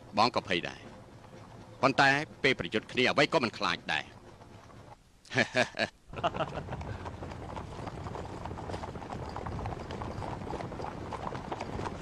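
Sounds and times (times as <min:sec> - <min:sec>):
horses galloping hoofbeats: 0:00.0 - 0:12.0.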